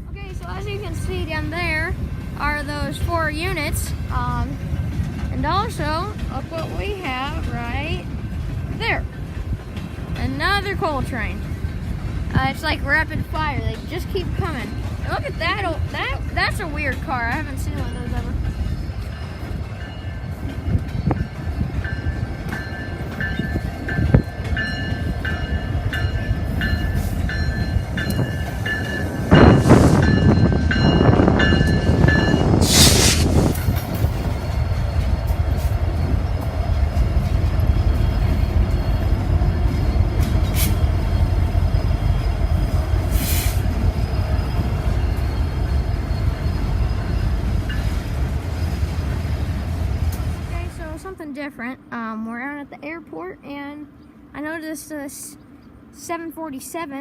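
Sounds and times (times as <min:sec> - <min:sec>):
freight train rumbling on rails: 0:00.0 - 0:56.8.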